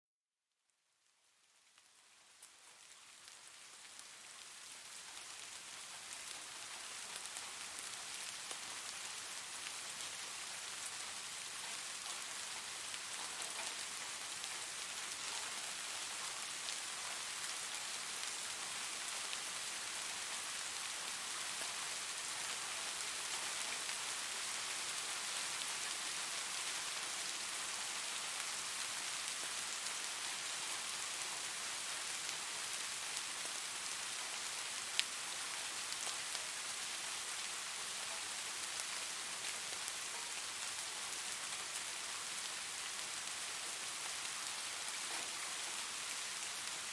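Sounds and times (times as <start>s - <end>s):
rain falling on a roof: 1.0s - 46.9s.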